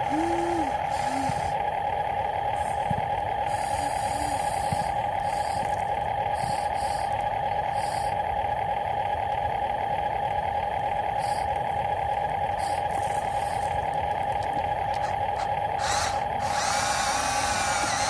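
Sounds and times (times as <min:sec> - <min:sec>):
high-pitched electric motor whine: 0:00.0 - 0:18.0.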